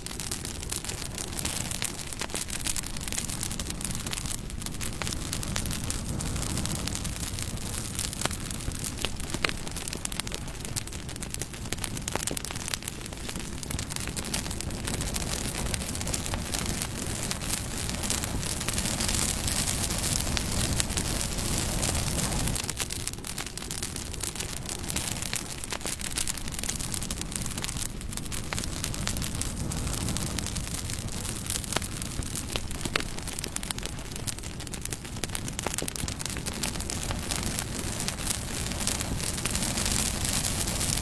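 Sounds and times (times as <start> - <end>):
campfire wood crackling and popping: 0.0 - 41.0
low rush of flames: 0.0 - 41.0.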